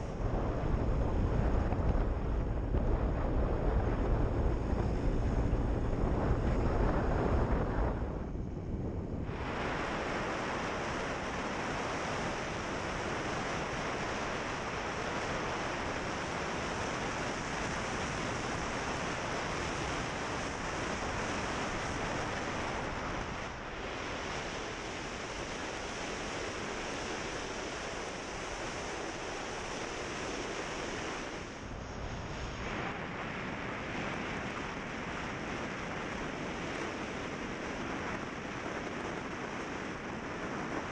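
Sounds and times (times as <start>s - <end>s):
wind rushing on microphone: 0.0s - 40.9s.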